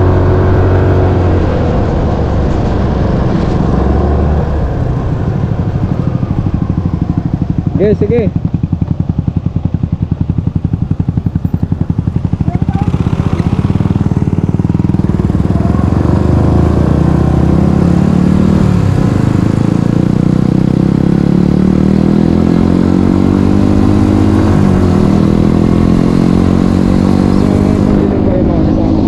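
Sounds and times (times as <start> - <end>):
motorcycle engine running: 4.1 - 29.0.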